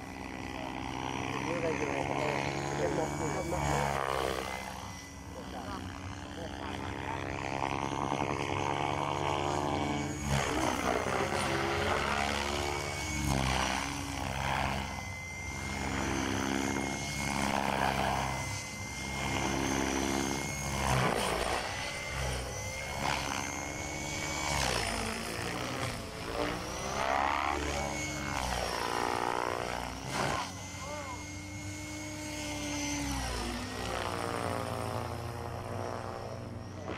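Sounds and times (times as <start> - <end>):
rc helicopter high whine: 0.0 - 36.9
rotor pulsing: 0.0 - 36.9.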